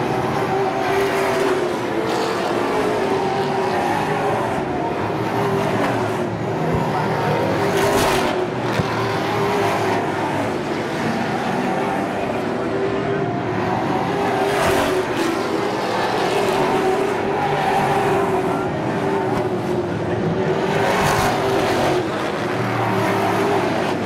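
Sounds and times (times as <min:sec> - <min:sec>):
race car engines running hard: 0:00.0 - 0:24.0.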